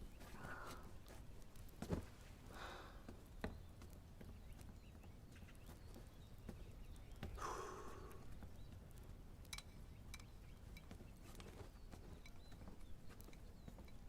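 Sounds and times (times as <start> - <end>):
soft footsteps: 0.0 - 7.4, 10.0 - 14.0.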